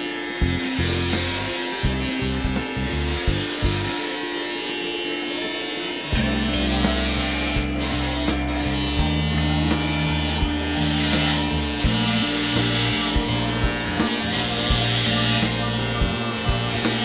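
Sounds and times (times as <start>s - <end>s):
background music with beat: 0.0s - 17.0s
hair clippers buzzing: 0.0s - 17.0s.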